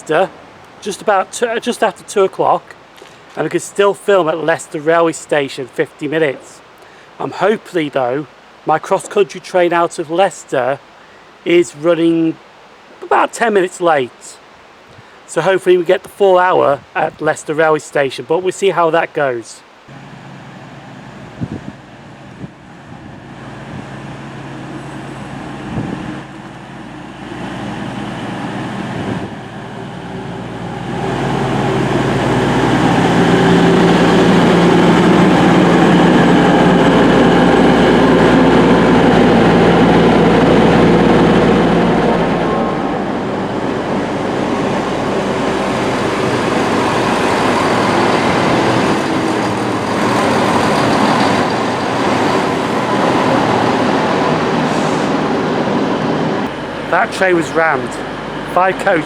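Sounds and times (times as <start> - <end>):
diesel train running: 0.0 - 14.1, 19.9 - 59.0.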